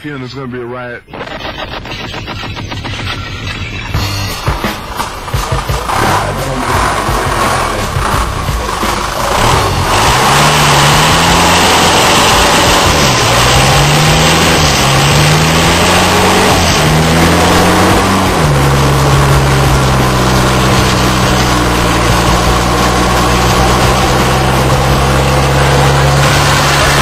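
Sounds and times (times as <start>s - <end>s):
diesel engine running under load: 2.0s - 27.0s.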